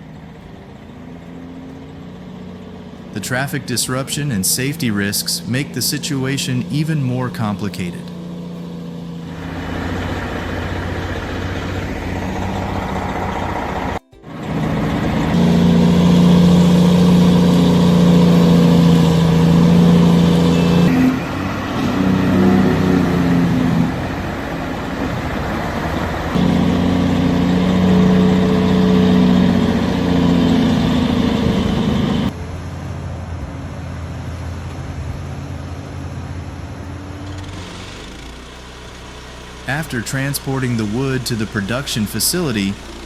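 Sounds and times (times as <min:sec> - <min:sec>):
truck engine running hard: 0:00.0 - 0:43.0.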